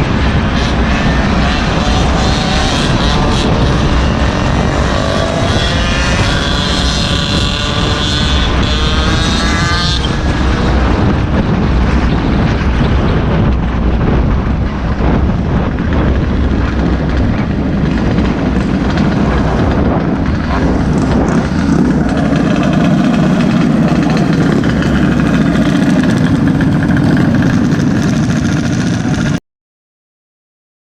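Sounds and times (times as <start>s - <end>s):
small gas engine running: 0.0s - 12.5s, 15.9s - 29.4s
steady rushing noise: 0.0s - 29.4s.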